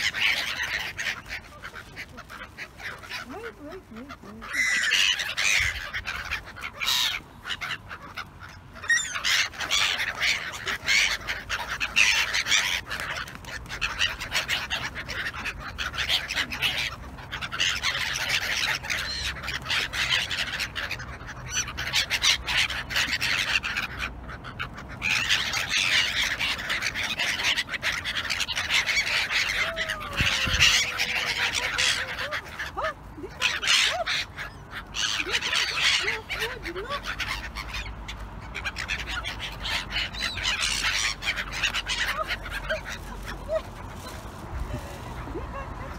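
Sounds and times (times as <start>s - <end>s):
gulls calling: 0.0s - 45.9s.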